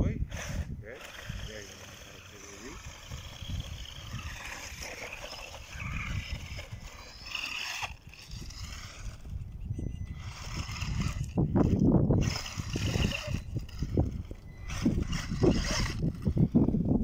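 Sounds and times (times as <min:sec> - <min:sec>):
rc car motor whining: 0:00.1 - 0:17.0
tyres scrabbling on dirt and stones: 0:00.4 - 0:16.8.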